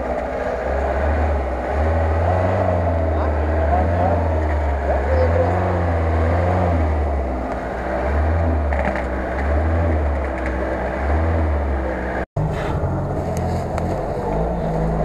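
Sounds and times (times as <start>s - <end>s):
off-road engine straining in mud: 0.0s - 15.0s.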